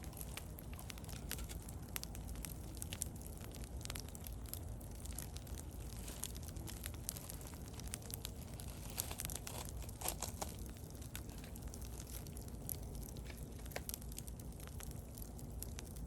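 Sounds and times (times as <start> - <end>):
bonfire crackling and popping: 0.0 - 16.0
low fire rumble: 0.0 - 16.0.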